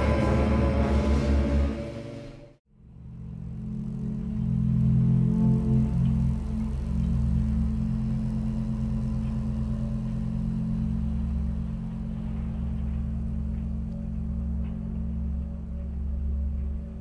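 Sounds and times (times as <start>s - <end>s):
low rumbling electronic drone: 0.0s - 17.0s.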